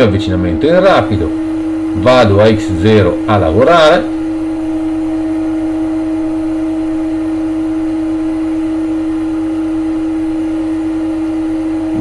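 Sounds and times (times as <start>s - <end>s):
lathe spindle hum: 0.0s - 12.0s.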